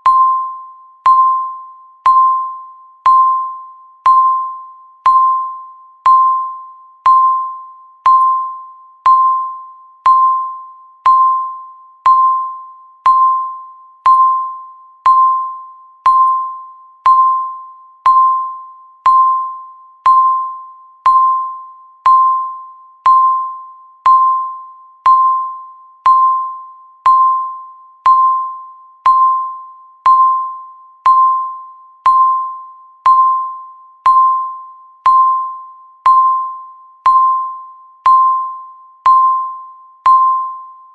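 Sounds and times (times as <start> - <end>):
electronic timer beeps: 0.0 - 40.9.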